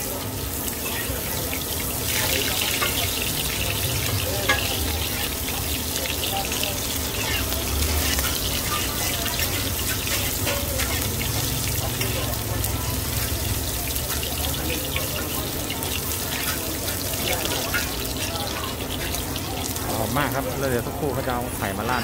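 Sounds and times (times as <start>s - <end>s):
hot oil sizzling in a pan: 0.0s - 22.0s.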